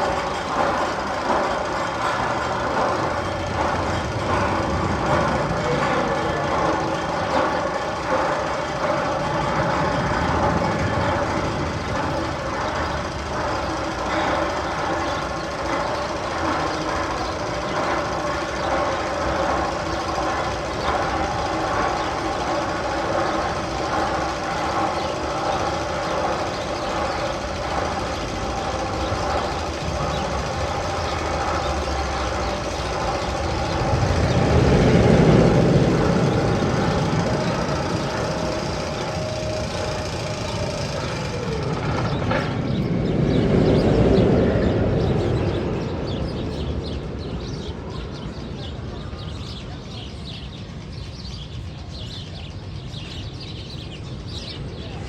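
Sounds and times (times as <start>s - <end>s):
machine-like drone over loudspeakers: 0.0s - 55.0s.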